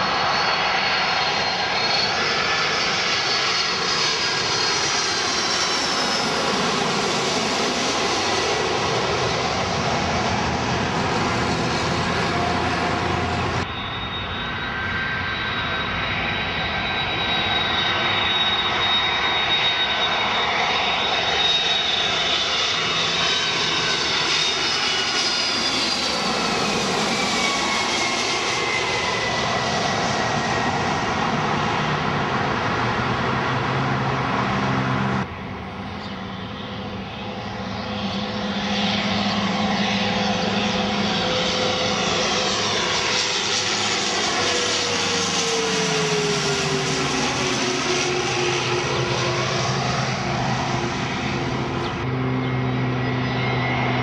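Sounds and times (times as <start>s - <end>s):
jet airliner engine whine: 0.0s - 54.0s
turboprop propeller drone: 0.0s - 54.0s.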